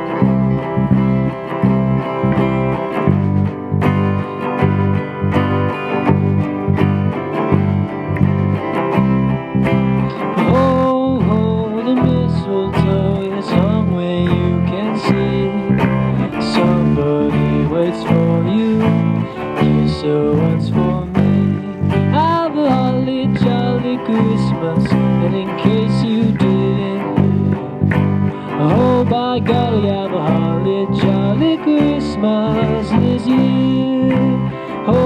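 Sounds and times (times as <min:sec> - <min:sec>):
bass guitar: 0:00.0 - 0:35.0
guitar lead with bent notes: 0:00.0 - 0:35.0.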